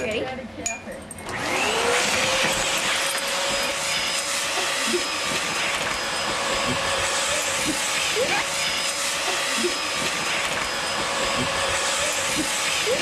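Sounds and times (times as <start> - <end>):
vacuum cleaner running: 1.2 - 13.0.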